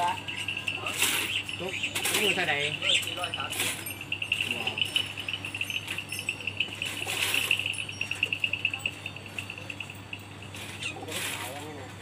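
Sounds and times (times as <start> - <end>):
high pulsing insect trill: 0.0 - 11.0.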